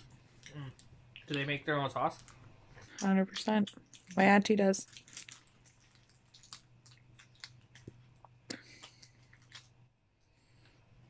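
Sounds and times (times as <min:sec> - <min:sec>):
faint chewing: 0:00.0 - 0:10.8
low steady hum: 0:00.0 - 0:11.0.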